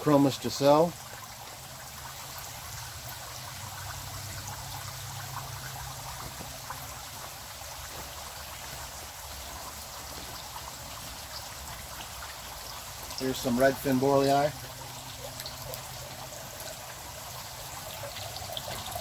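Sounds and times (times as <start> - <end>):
water running and trickling: 0.0 - 19.0.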